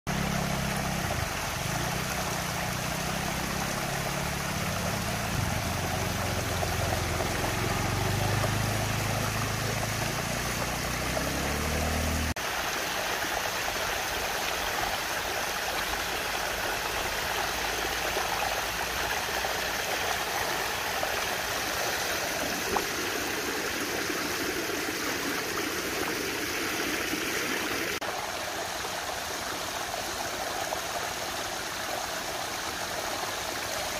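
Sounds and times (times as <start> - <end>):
water rushing down whirlpool: 0.1 - 33.9.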